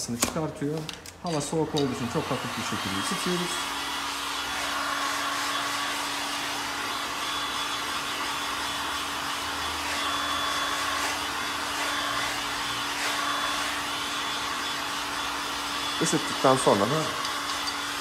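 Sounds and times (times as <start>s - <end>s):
heat gun blowing air: 1.3s - 18.0s.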